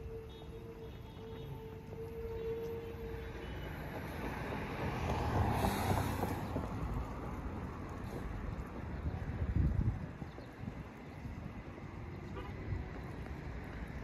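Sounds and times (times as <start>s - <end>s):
car passing by: 1.4s - 14.0s.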